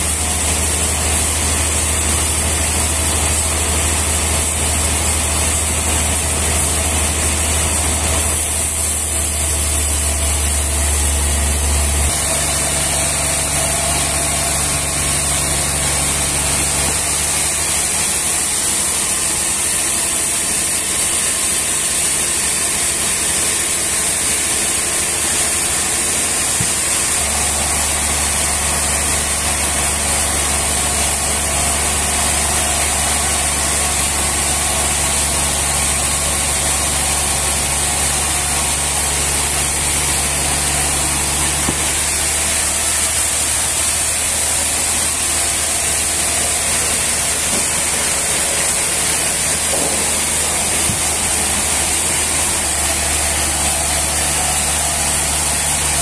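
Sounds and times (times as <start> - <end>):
band sawmill sawing wood: 0.0 - 56.0.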